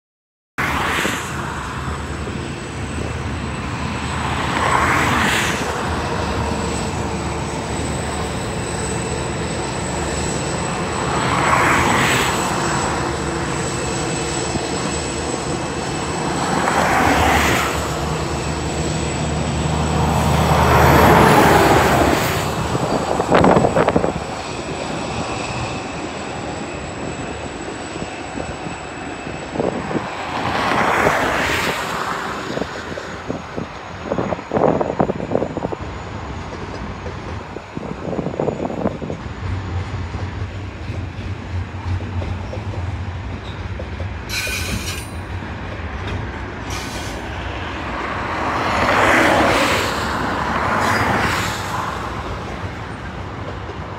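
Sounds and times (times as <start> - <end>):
locomotive engine drone: 0.6 - 53.9.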